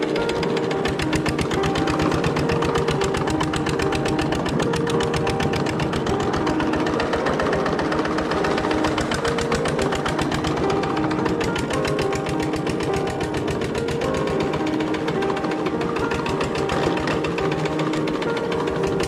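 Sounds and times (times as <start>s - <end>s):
petrol engine idling: 0.0s - 19.0s.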